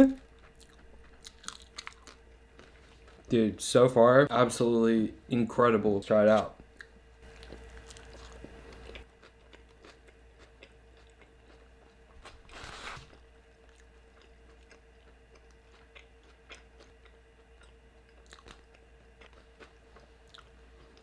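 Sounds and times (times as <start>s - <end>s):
faint steady hum: 0.0s - 21.0s
chewing and biting food: 0.3s - 3.3s, 6.8s - 21.0s.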